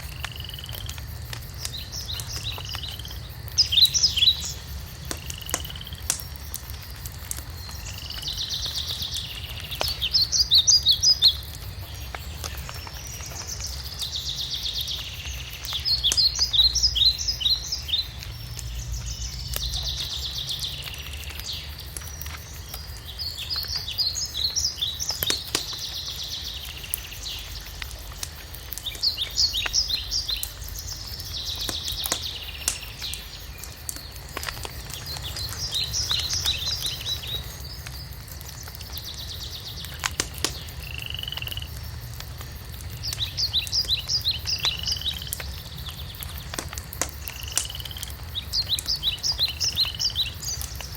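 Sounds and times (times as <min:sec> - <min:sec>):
songbird singing: 0:00.0 - 0:50.9
wood fire crackling and popping: 0:00.0 - 0:50.9.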